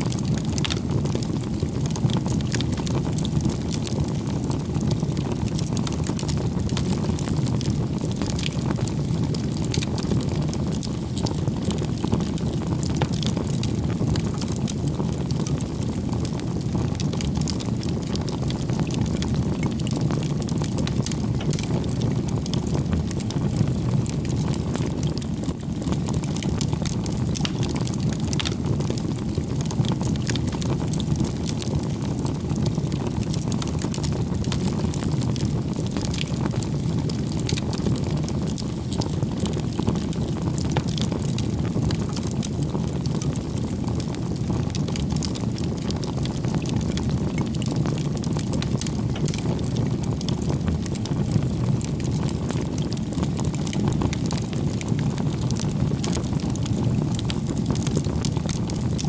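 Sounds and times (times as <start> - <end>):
bonfire flames rushing: 0.0 - 59.0
burning wood crackling and popping: 0.0 - 59.0.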